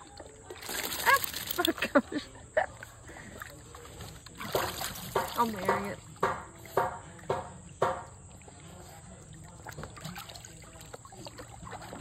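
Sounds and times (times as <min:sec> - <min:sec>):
dogs splashing in water: 0:00.0 - 0:12.0
water sloshing in a pool: 0:00.0 - 0:12.0.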